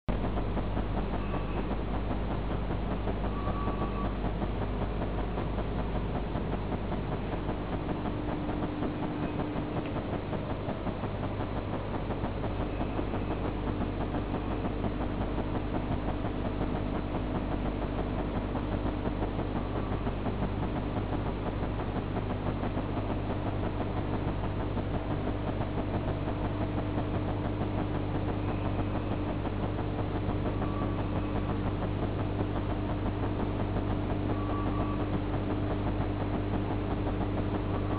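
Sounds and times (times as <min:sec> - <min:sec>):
motor hum: 0:00.1 - 0:37.9.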